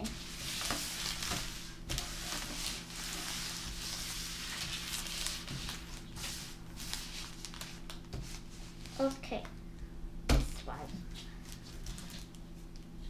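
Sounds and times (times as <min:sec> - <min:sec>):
wrappers rustling on wooden table: 0:00.0 - 0:09.2, 0:11.2 - 0:12.8.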